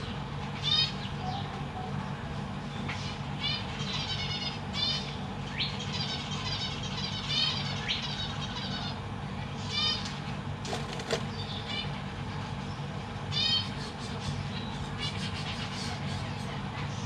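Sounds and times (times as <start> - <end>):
finches calling: 0.0 - 2.1, 2.8 - 10.1, 12.7 - 17.0
low steady hum: 0.0 - 17.0.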